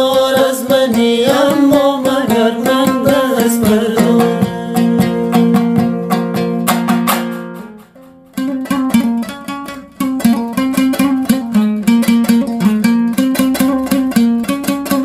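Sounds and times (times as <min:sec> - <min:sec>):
plucked and strummed lute: 0:00.0 - 0:15.0.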